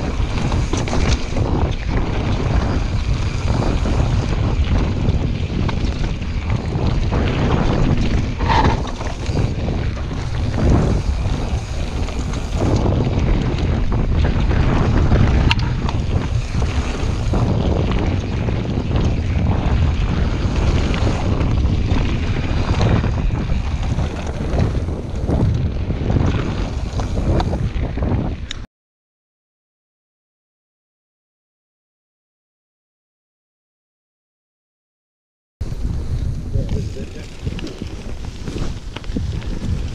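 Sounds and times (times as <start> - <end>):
bike rumbling and knocking: 0.0 - 28.6, 35.6 - 39.9
wind buffeting microphone: 0.0 - 28.7, 35.6 - 39.9.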